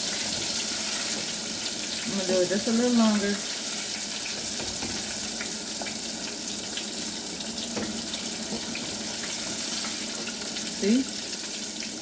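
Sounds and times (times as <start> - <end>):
pickles frying in hot oil: 0.0 - 12.0.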